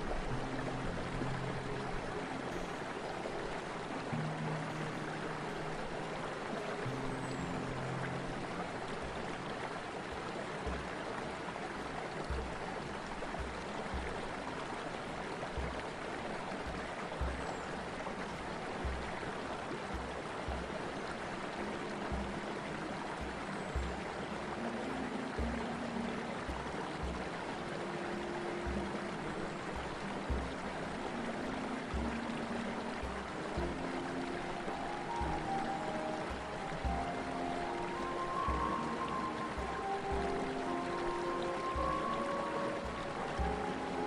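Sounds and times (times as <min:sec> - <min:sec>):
celtic music: 0:00.0 - 0:44.0
river rushing through rapids: 0:00.0 - 0:44.0
soft low beat: 0:00.0 - 0:44.0.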